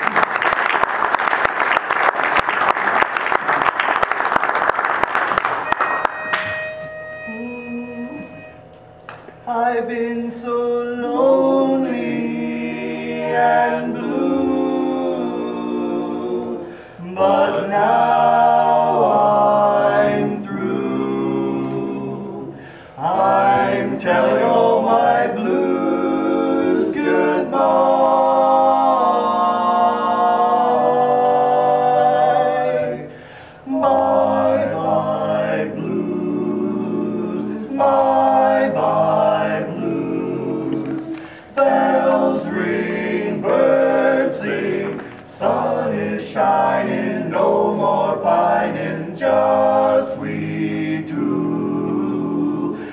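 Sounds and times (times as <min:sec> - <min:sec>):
men's vocal quartet singing: 0:06.6 - 0:08.6, 0:09.4 - 0:52.9.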